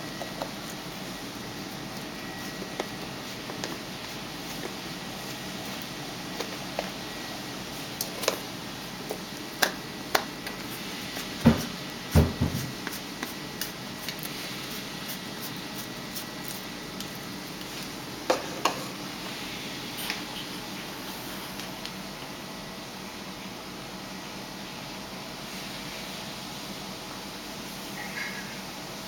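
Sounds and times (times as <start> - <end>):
aquarium filter humming: 0.0 - 29.0.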